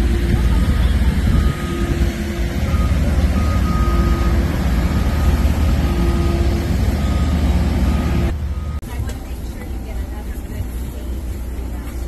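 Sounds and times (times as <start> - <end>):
large vehicle rumbling: 0.0 - 12.0.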